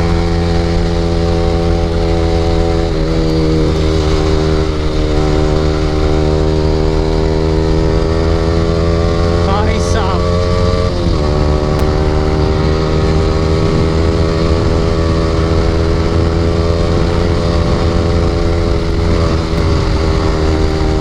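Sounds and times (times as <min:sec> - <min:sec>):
motorcycle engine at steady revs: 0:00.0 - 0:21.0.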